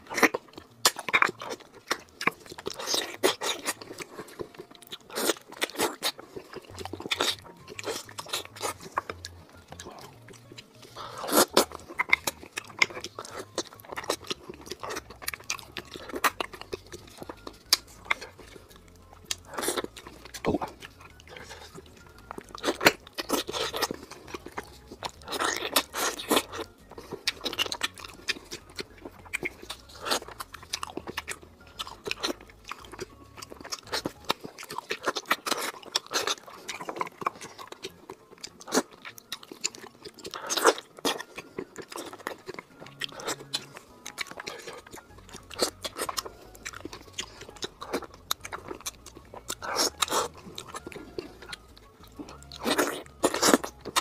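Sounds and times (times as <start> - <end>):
wet chewing and lip smacks: 0.0 - 54.0.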